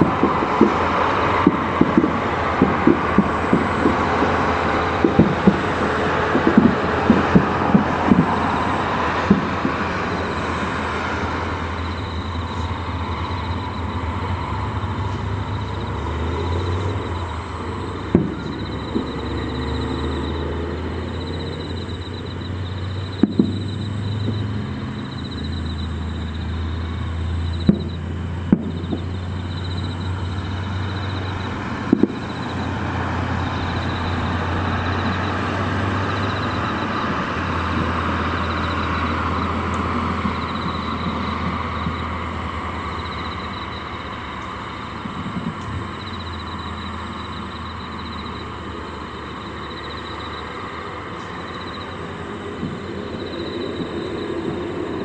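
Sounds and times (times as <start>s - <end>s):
distant firework shells bursting: 0.0s - 48.1s.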